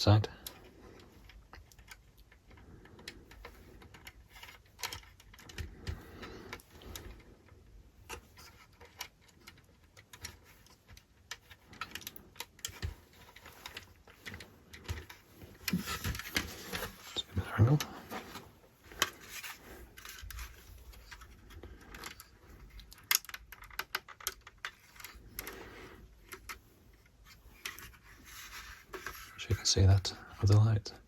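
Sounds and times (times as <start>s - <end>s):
plastic parts clicking and tapping: 0.0s - 31.0s.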